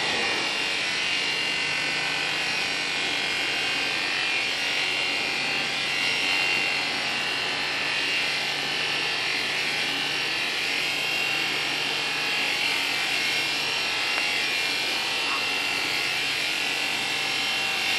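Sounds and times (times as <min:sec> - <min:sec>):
electric clippers running: 0:00.0 - 0:17.9.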